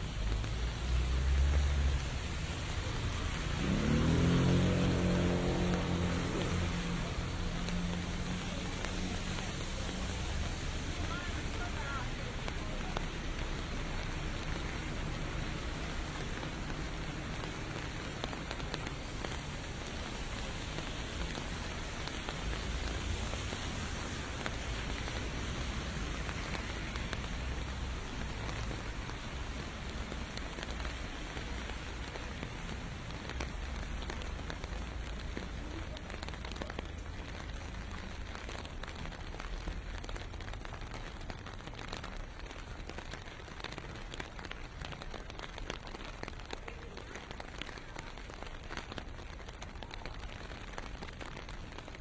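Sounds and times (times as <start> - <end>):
distant traffic rumble: 0.0 - 52.0
rain on pavement: 0.0 - 52.0.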